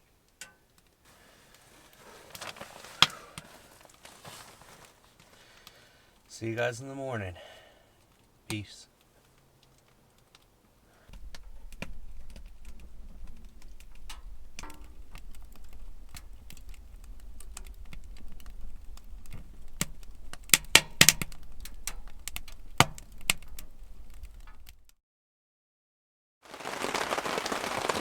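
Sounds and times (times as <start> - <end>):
wood stove fire crackling: 0.0 - 25.0, 26.5 - 28.0.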